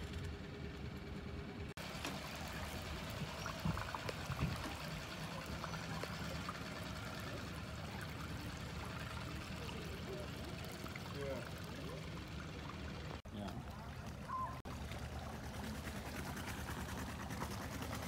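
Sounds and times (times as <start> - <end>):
water splashing along a hull: 1.7 - 18.0.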